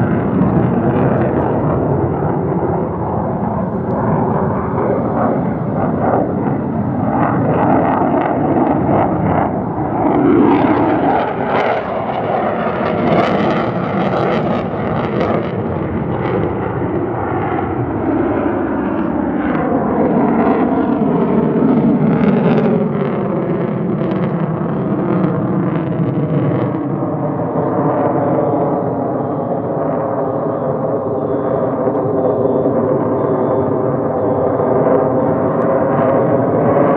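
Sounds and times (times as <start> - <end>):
jet engine roaring flyby: 0.0 - 36.9.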